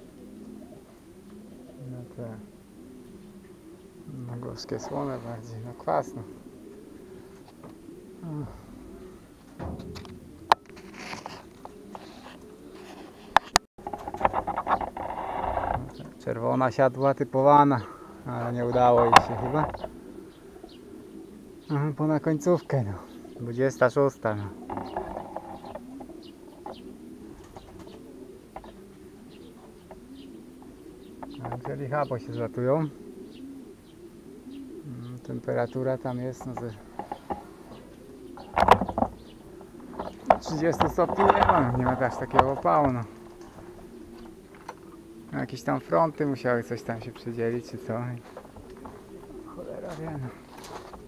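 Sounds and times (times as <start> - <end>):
pigeons cooing: 0.0 - 51.0.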